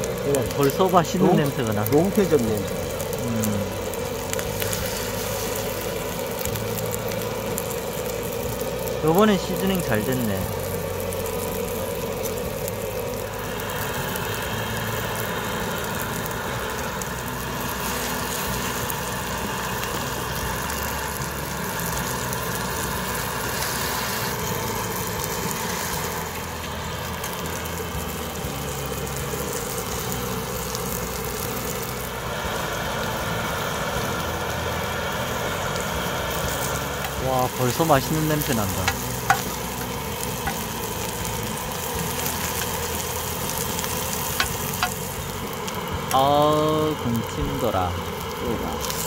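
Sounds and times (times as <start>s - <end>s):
fish sizzling in oil: 0.0s - 49.0s.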